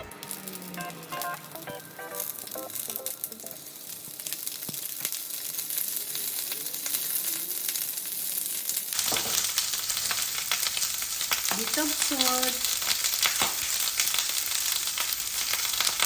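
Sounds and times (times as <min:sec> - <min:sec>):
vegetables frying with crackling pops: 0:00.0 - 0:16.0.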